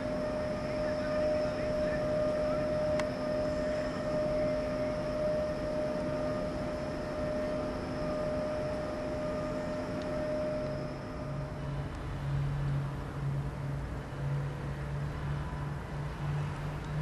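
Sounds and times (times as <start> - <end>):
electric locomotive whine: 0.0 - 17.0.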